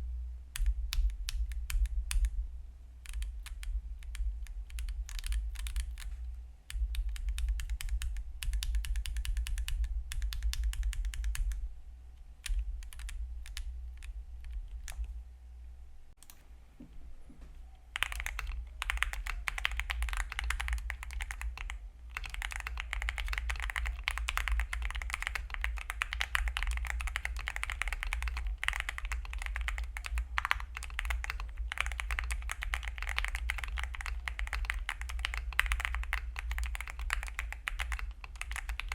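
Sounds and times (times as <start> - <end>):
rapid typing on mechanical keyboard: 3.1 - 6.1, 6.7 - 11.6, 12.4 - 15.1, 17.9 - 38.9.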